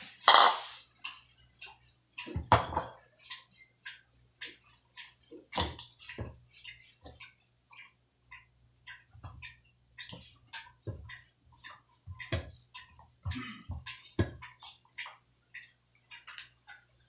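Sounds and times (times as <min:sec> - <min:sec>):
wet clicks of hands handling food: 0:01.0 - 0:17.0.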